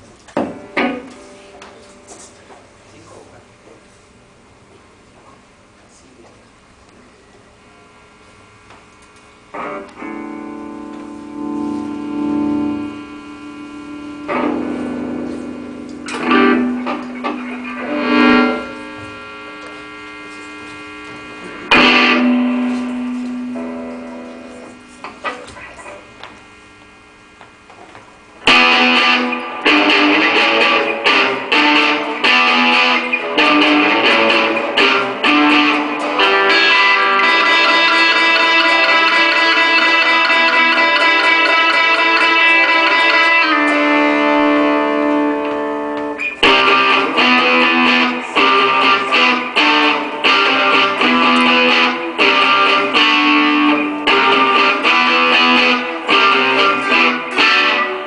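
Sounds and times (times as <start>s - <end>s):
distorted electric guitar: 0.0s - 2.8s, 7.2s - 58.0s.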